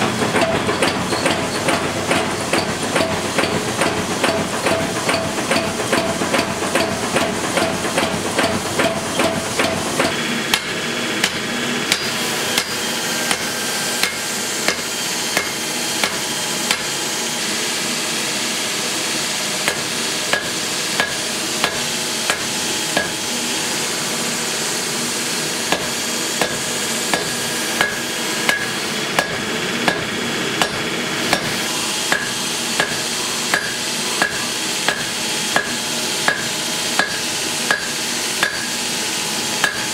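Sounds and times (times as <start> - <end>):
power hammer pounding hot steel: 0.0 - 39.9.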